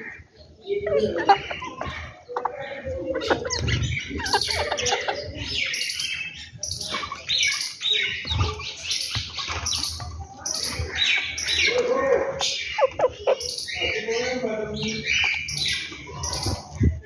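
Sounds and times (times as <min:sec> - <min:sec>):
small songbirds chirping: 0:00.0 - 0:17.0.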